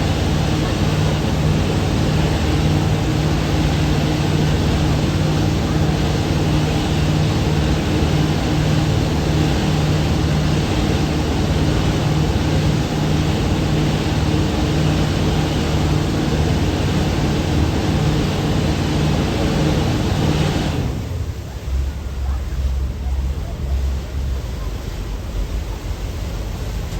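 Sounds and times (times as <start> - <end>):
boat engine drone: 0.0 - 26.9
rush of wind and water: 0.0 - 26.9.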